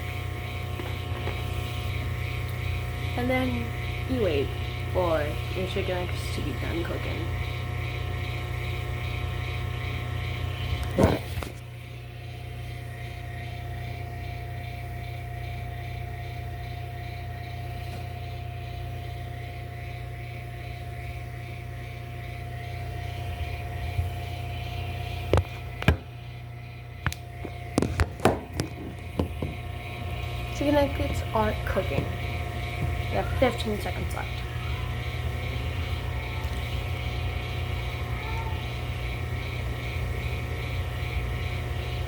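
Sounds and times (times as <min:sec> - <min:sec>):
microwave oven humming: 0:00.0 - 0:42.0.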